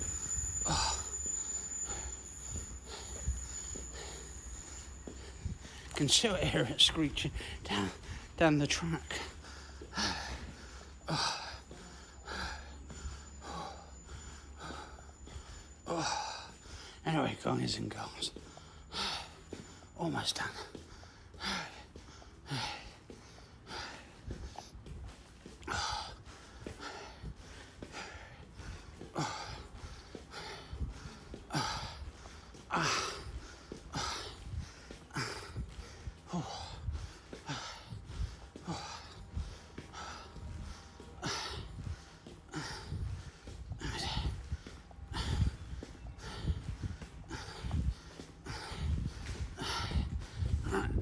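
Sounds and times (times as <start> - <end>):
man breathing close to microphone: 0.0 - 51.0.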